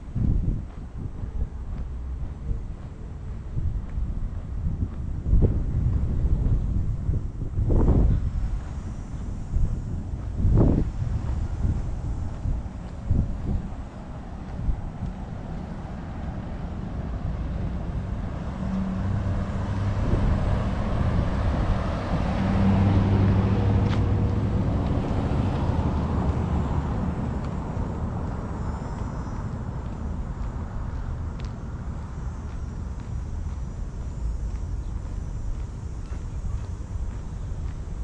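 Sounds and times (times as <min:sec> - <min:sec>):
steady low rumble: 0:00.0 - 0:38.0
van driving past: 0:04.6 - 0:38.0.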